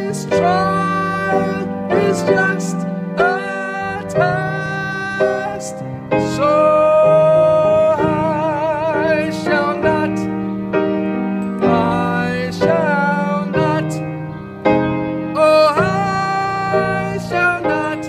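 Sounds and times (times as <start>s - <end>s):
grand piano gospel chords: 0.0s - 18.0s.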